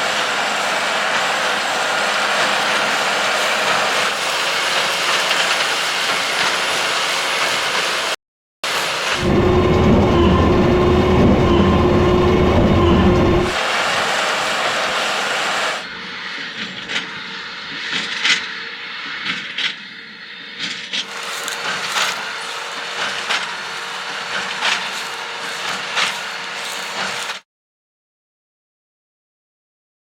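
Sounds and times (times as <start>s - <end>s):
tractor and baler running: 0.0s - 27.4s.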